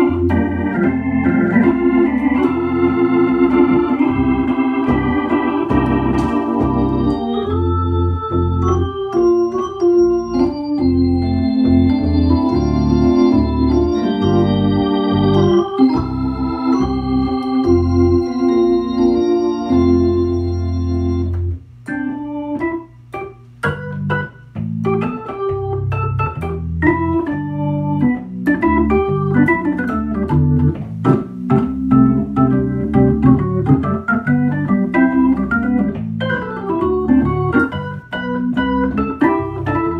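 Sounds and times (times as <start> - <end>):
organ chords and melody: 0.0 - 39.9.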